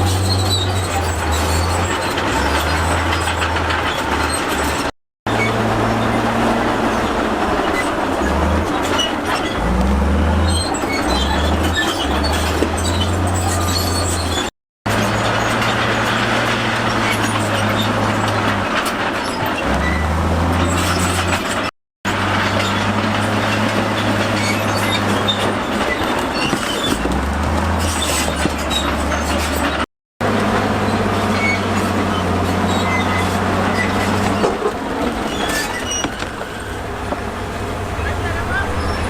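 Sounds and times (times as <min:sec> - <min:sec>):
bulldozer diesel engine running: 0:00.0 - 0:39.0
steel tracks clanking and squealing: 0:00.0 - 0:39.0.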